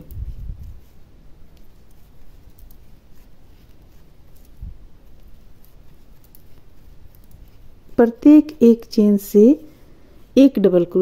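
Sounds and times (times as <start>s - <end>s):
crochet hook and yarn rubbing: 0.0s - 11.0s.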